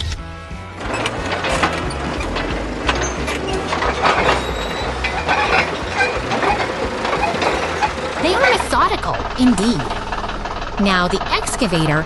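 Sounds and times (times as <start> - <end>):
low engine rumble: 0.2 - 12.0
rubble clanks and rattles: 0.6 - 12.0.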